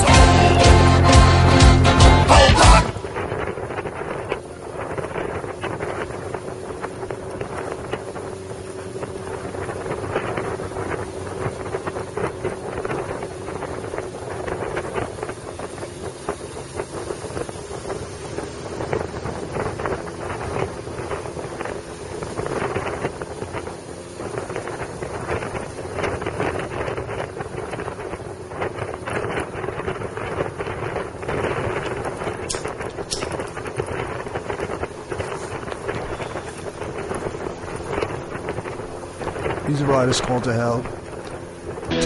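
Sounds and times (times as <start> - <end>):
motorcycle engine: 0.0 - 42.0
road noise: 0.0 - 42.0
wind buffeting microphone: 2.8 - 42.0.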